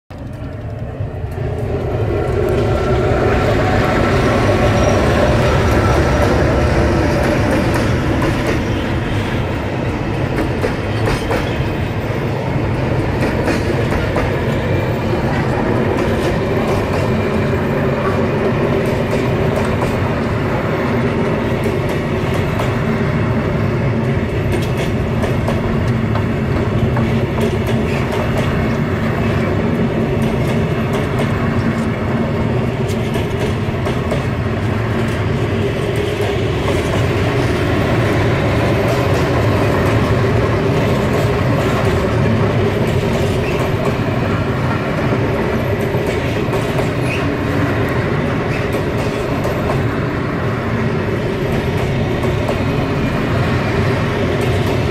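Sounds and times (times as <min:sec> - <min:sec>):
diesel locomotive engine: 0:00.1 - 0:54.9.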